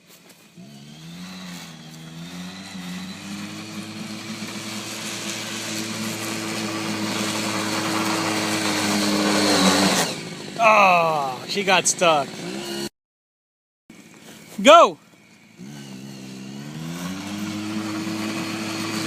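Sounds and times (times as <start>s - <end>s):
snowmobile engine revving: 0.4s - 12.9s, 14.6s - 19.0s.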